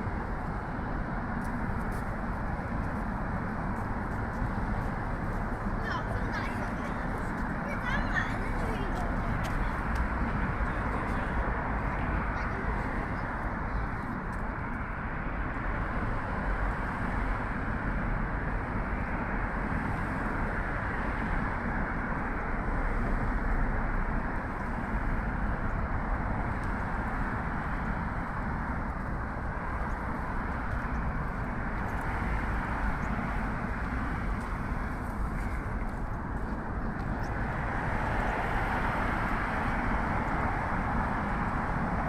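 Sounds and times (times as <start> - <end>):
road traffic hum: 0.0 - 42.0.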